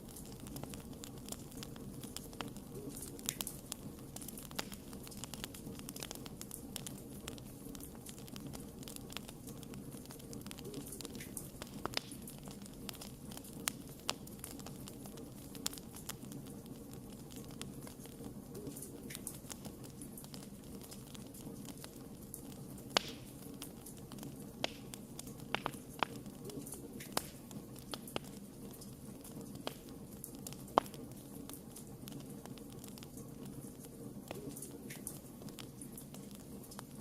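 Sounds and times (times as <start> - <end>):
campfire flames rushing: 0.0 - 37.0
wood fire crackling and popping: 0.0 - 37.0.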